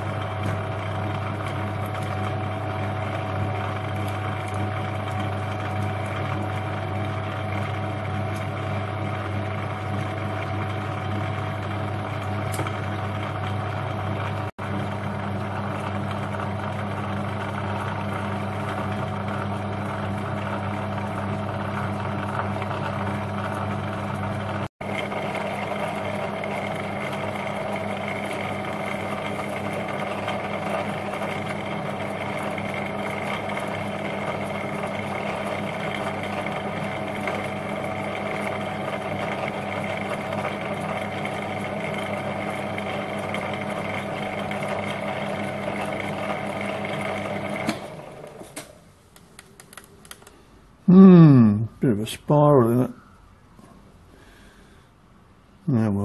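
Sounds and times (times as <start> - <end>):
metal lathe humming and whining: 0.0 - 48.5.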